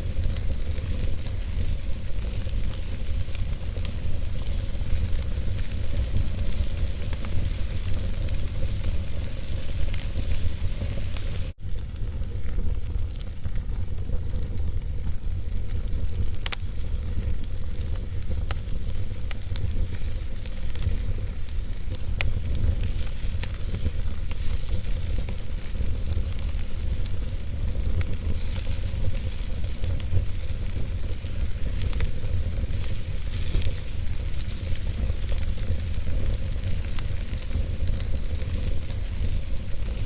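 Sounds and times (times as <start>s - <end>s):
steady hiss: 0.0s - 13.0s, 13.8s - 40.0s
wood fire crackling: 0.0s - 40.0s.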